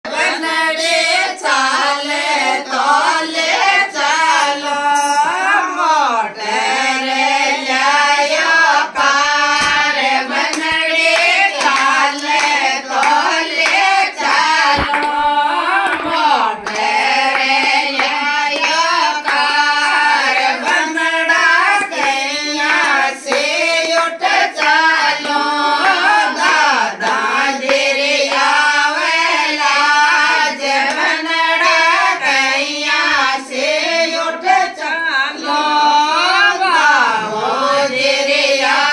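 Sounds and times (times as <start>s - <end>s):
women singing folk song: 0.1s - 38.9s.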